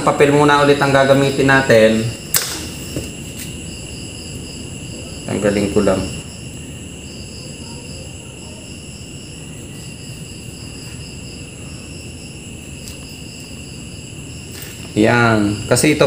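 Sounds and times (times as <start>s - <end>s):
crickets trilling: 0.0s - 16.0s
low steady hiss: 0.0s - 16.0s.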